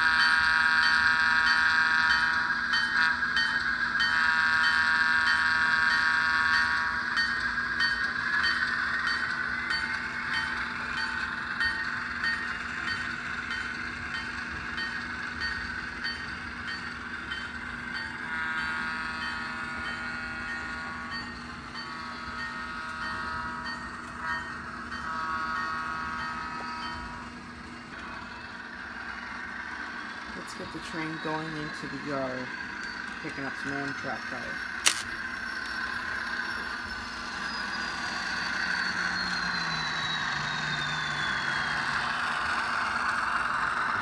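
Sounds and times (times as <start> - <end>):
model locomotive diesel engine sound: 0.0 - 44.0.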